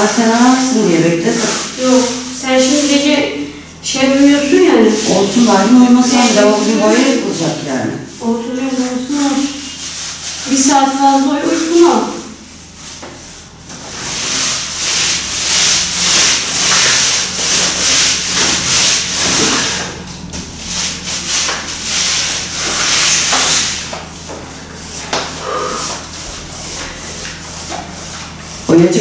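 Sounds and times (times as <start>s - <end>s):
paintbrush strokes on wall: 0.0s - 3.3s, 3.9s - 20.0s, 20.6s - 28.8s.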